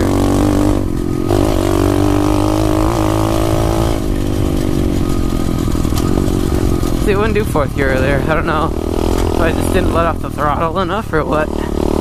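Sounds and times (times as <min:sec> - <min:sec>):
motorbike engine pulling: 0:00.0 - 0:12.0.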